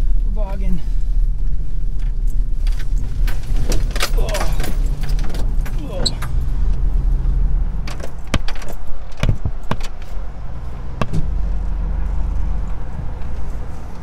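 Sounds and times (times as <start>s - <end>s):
engine and road rumble: 0.0s - 14.0s
rattles and clicks in cab: 1.4s - 14.0s.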